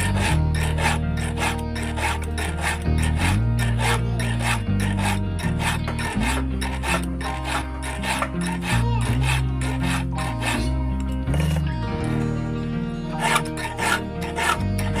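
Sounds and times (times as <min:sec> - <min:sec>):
file scraping chainsaw chain: 0:00.0 - 0:12.2, 0:13.1 - 0:15.0
background music: 0:00.0 - 0:15.0.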